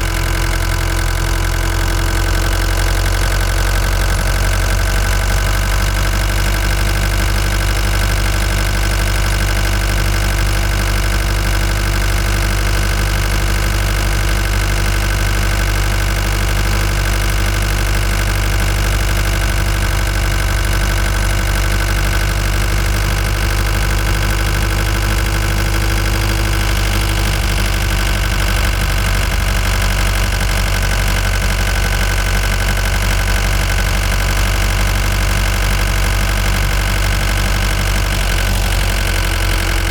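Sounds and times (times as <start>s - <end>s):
van engine running: 0.0s - 39.9s.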